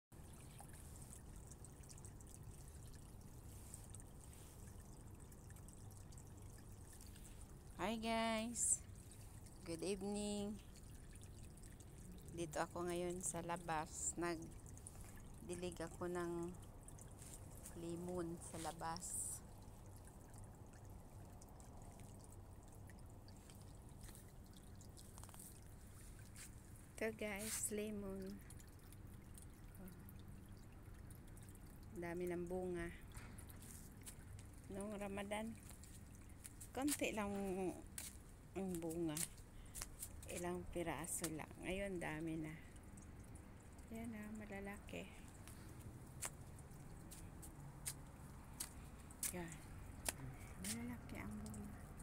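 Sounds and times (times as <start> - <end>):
water trickling from hose: 0.1 - 52.0.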